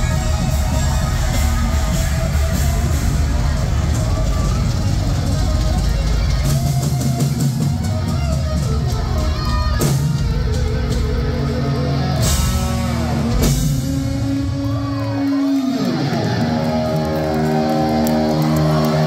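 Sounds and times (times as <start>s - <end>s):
distorted electric guitar: 0.0s - 19.0s
drums: 0.0s - 19.0s.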